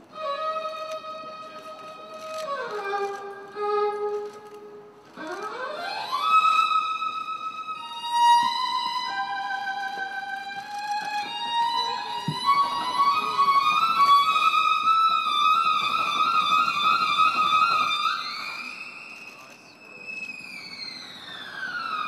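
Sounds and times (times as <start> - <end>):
solo violin melody: 0.0 - 22.0.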